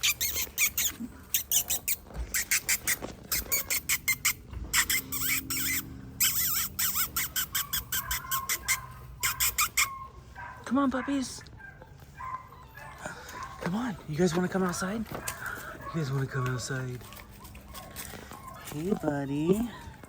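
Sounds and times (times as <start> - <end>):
puppies squealing and yelping: 0.0 - 20.0.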